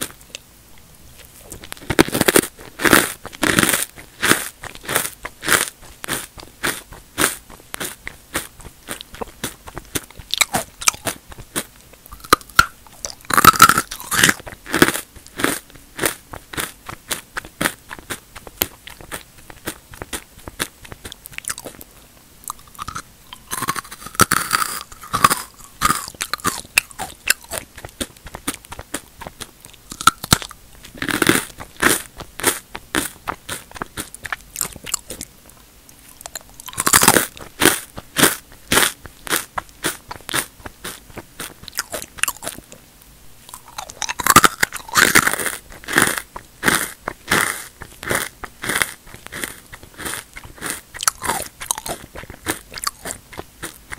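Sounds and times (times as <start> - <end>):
chips crunched and chewed: 1.2 - 42.8, 43.5 - 53.9.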